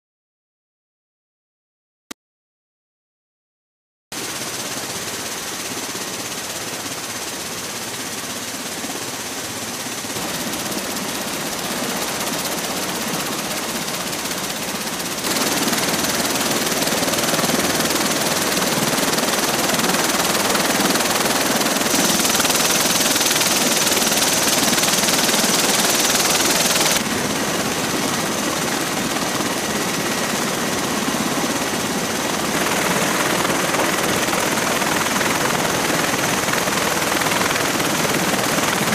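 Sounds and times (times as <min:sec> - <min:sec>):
aircraft rotor and engine rush: 0:04.2 - 0:38.9.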